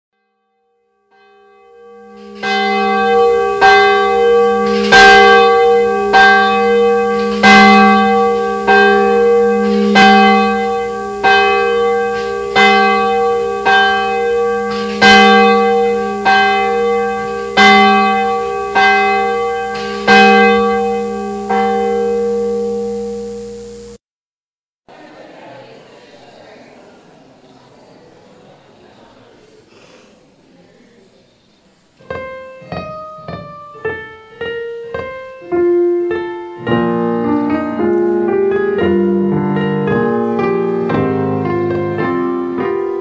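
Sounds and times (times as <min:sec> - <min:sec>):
church bell tolling: 0:00.2 - 0:24.0, 0:32.0 - 0:43.0.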